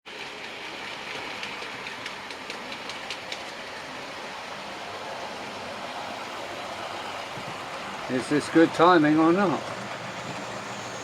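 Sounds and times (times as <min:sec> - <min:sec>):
model train rolling hum: 0:00.1 - 0:11.0.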